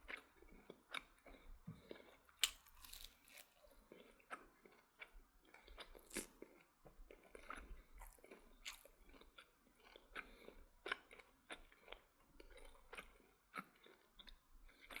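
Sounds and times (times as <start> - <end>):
chewing crunchy fried chicken: 0.0 - 15.0.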